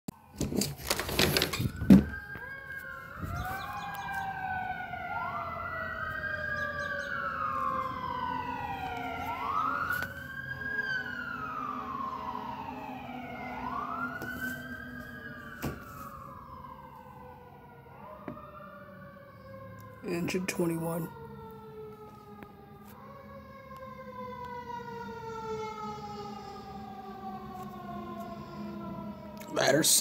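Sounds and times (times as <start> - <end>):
second siren sweeping wail: 0.1 - 30.0
siren rising and falling: 0.1 - 30.0.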